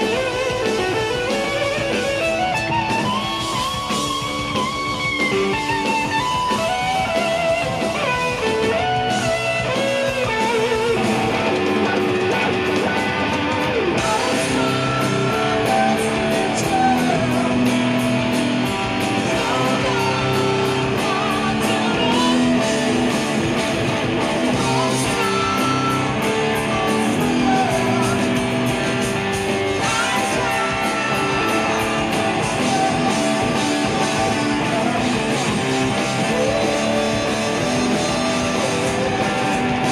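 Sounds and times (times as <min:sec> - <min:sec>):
drums: 0:00.0 - 0:39.9
electric guitar: 0:00.0 - 0:39.9
live rock band playing: 0:00.0 - 0:39.9.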